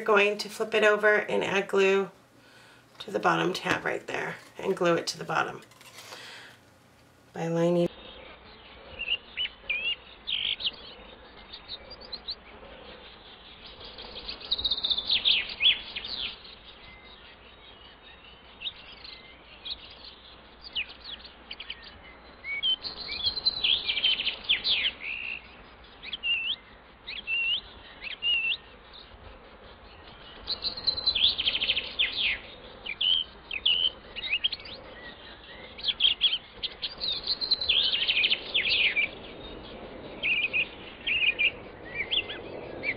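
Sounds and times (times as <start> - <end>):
small birds chirping: 0.0 - 6.8, 7.4 - 42.9
faint steady hiss: 0.0 - 42.9.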